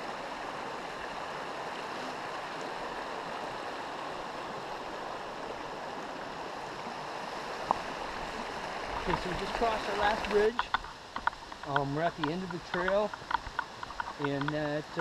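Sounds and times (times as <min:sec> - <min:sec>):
mountain stream flowing: 0:00.0 - 0:15.0.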